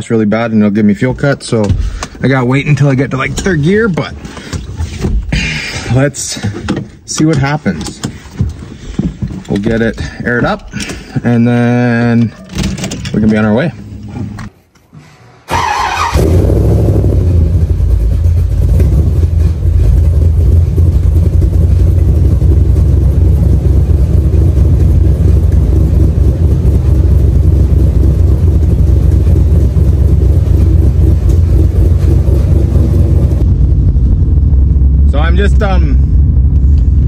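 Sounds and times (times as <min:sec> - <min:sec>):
car engine running steadily: 0:00.1 - 0:14.4, 0:16.1 - 0:37.0.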